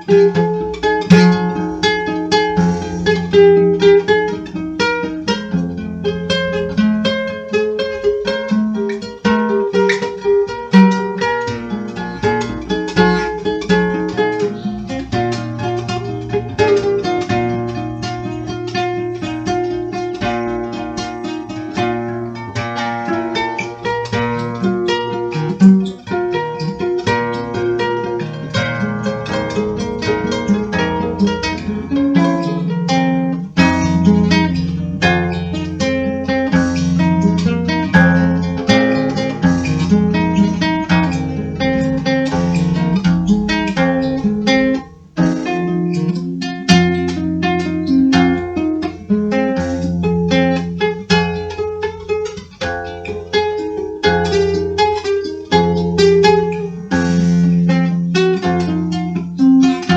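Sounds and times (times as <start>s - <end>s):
acoustic guitar plucked and strummed: 0.0s - 59.9s.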